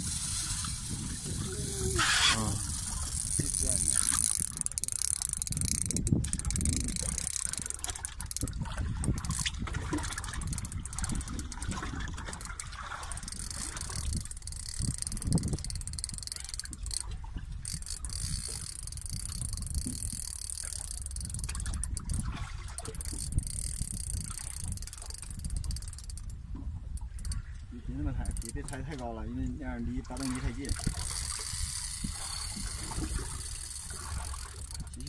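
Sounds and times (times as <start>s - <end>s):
boat engine rumble: 0.0s - 35.0s
wind on microphone: 0.0s - 35.0s.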